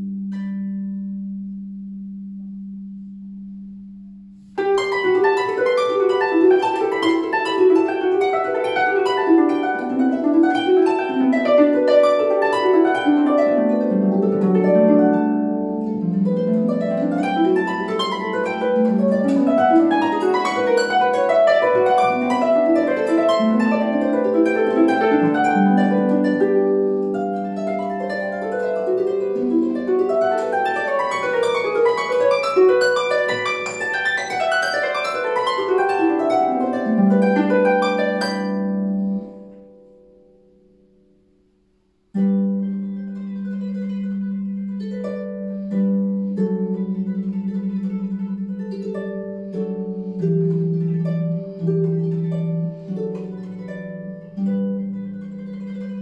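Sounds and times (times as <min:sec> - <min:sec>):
harp plucked notes: 0:00.0 - 0:56.0.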